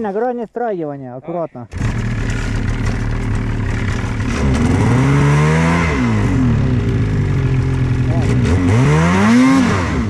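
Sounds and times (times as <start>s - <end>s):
snowmobile engine idling and revving: 1.7s - 10.0s.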